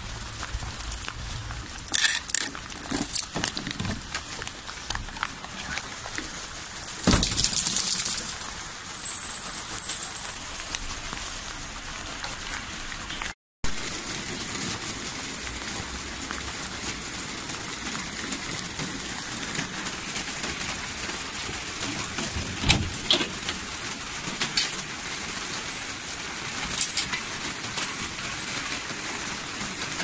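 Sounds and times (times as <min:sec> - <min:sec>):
rain on pavement: 0:00.0 - 0:30.0.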